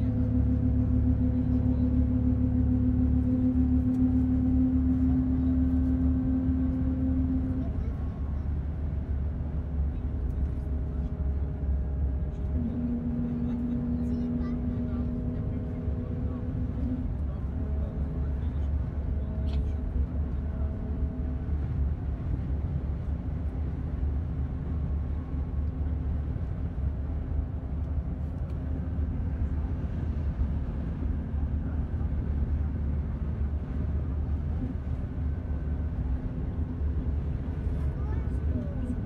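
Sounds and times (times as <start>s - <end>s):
vehicle engine and road noise: 0.0s - 39.0s.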